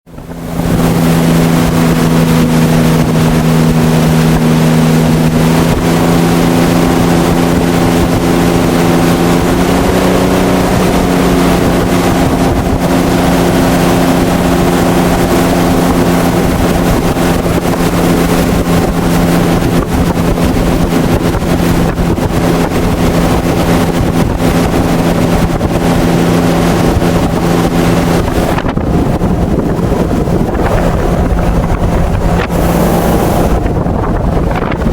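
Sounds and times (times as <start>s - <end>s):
boat engine running under load: 0.1s - 34.9s
wind and water rushing: 0.1s - 34.9s.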